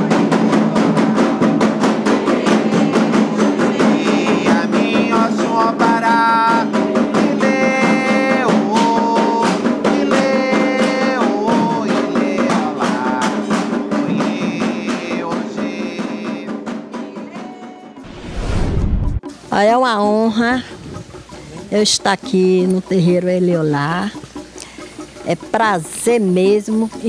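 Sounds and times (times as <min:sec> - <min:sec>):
hand drum strokes: 0:00.0 - 0:18.1, 0:19.0 - 0:27.0.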